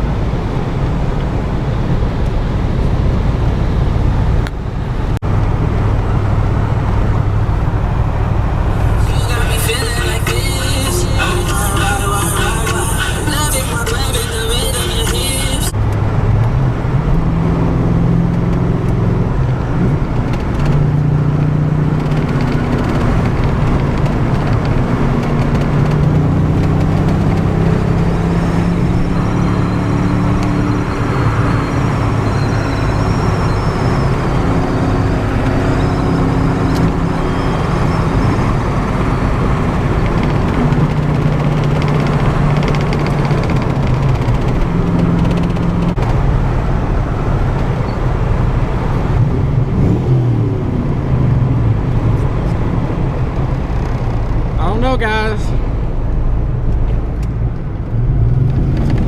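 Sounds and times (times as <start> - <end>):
car engine revving while driving: 0.0 - 54.6, 55.6 - 59.0
road and tyre noise: 0.0 - 59.0.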